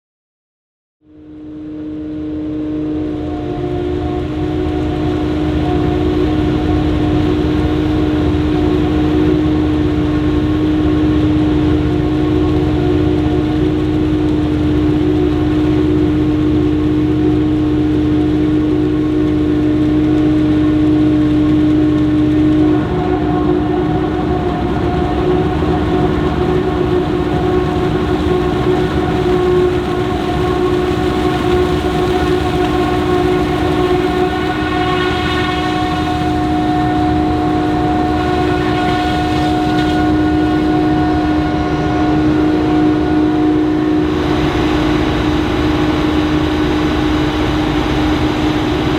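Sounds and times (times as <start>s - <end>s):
forage harvester mechanical drone: 1.1s - 48.9s
high mechanical whine: 1.1s - 48.9s.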